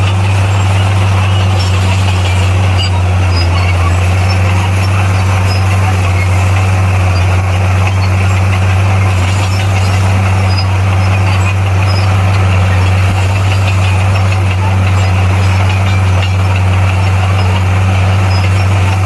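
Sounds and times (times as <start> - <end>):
bulldozer diesel engine humming: 0.0 - 19.0.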